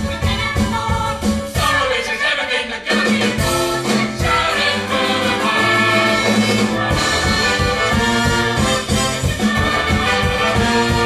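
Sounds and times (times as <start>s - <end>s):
small orchestra with brass chords: 0.0s - 11.0s.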